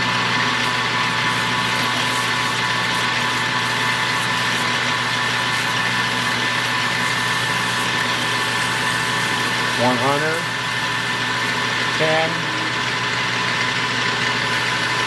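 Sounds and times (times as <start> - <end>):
metal lathe humming: 0.0 - 15.0.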